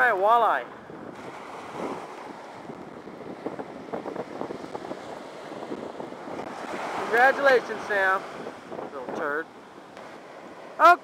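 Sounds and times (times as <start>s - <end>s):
surf washing up a beach: 0.0s - 11.0s
wind buffeting microphone: 0.0s - 11.0s.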